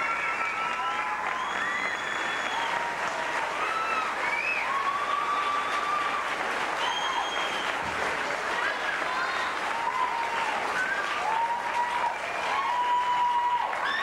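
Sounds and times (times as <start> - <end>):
audience applauding: 0.0 - 14.0
crowd whooping: 0.0 - 14.0.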